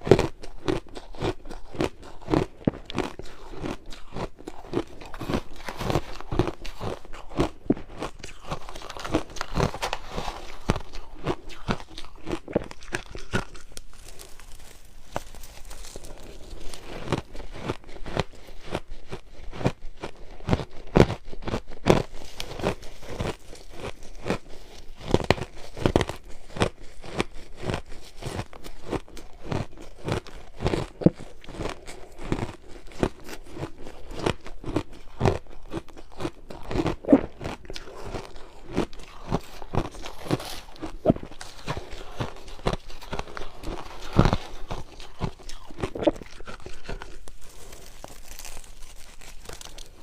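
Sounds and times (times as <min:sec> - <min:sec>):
ice being chewed: 0:00.0 - 0:50.0.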